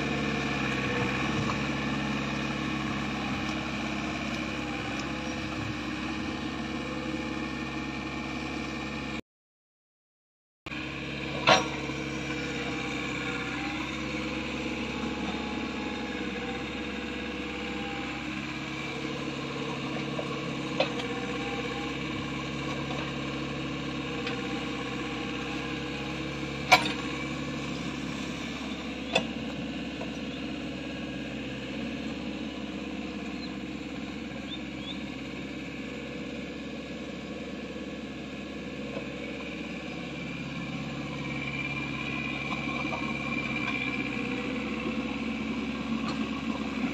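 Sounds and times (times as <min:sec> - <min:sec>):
diesel engine running: 0:00.0 - 0:09.2, 0:10.7 - 0:46.9.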